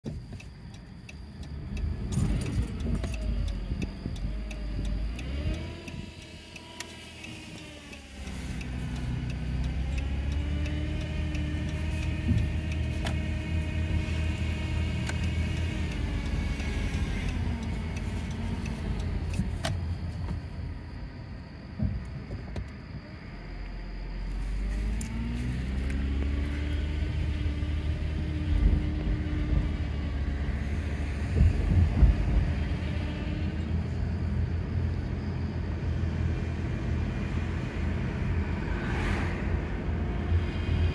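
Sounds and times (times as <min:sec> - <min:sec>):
car interior low rumble: 0:00.0 - 0:40.9.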